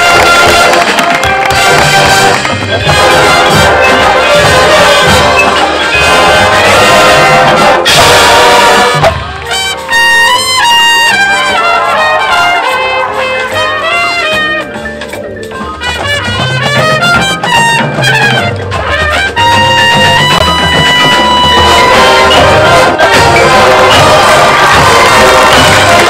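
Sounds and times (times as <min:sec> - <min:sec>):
marching band brass playing: 0:00.0 - 0:26.0.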